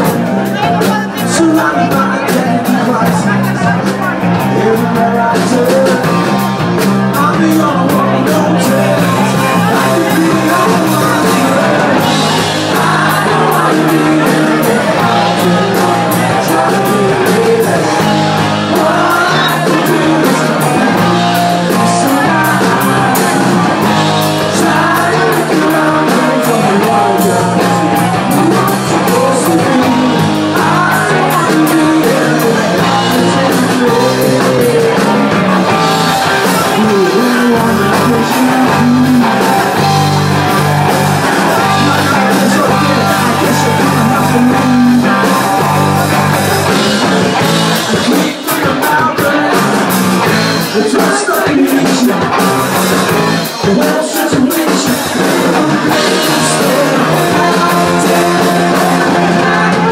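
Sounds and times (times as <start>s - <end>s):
bass guitar: 0.0s - 59.9s
drum kit beat: 0.0s - 59.9s
electric guitars: 0.0s - 59.9s
lead vocal singing: 0.0s - 59.9s.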